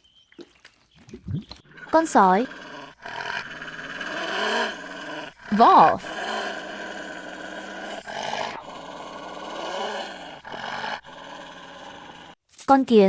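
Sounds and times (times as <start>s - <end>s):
wolf growling: 1.5s - 12.4s.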